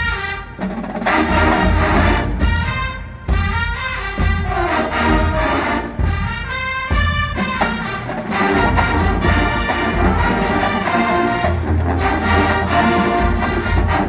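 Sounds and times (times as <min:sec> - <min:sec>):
drums: 0:00.0 - 0:14.0
marching band brass: 0:00.0 - 0:14.0.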